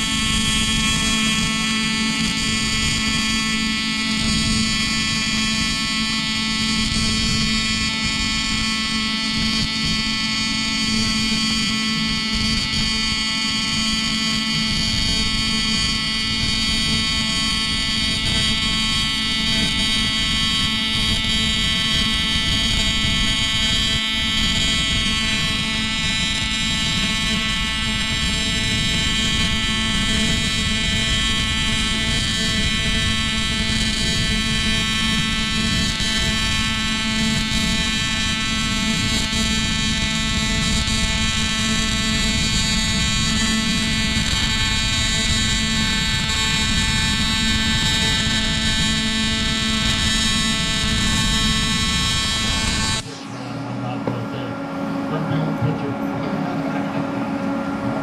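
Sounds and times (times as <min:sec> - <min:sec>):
welding arc buzzing: 0:00.0 - 0:58.0.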